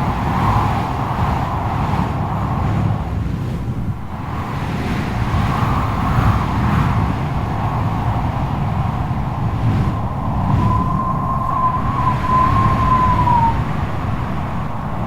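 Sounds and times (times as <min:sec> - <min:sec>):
strong gusting wind: 0:00.0 - 0:15.0
wind whistling howl: 0:00.0 - 0:15.0.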